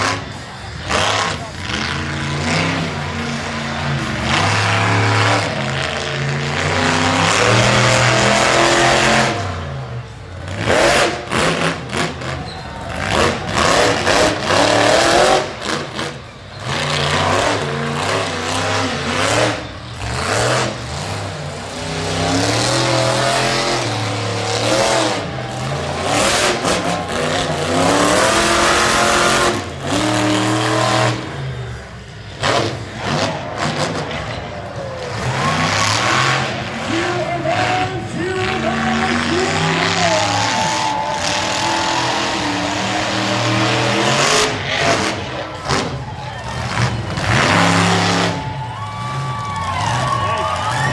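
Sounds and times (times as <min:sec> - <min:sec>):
monster truck engine revving: 0:00.0 - 0:50.9.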